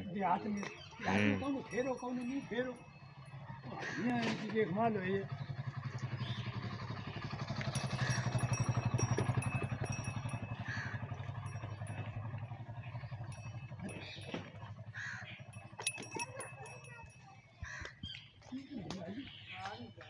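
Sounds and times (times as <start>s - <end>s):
engine running: 0.3s - 17.8s.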